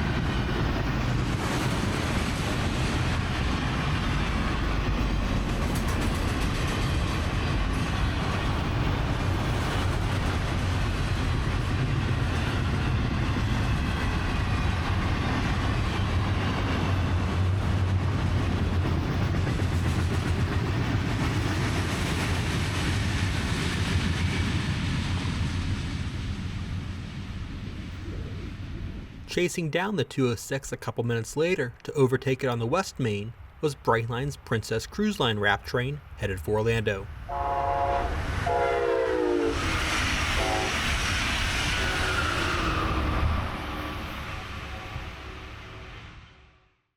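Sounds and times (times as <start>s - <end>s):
train wheels rumbling on rails: 0.0s - 29.3s, 37.7s - 46.3s
train engine drone: 0.0s - 46.7s.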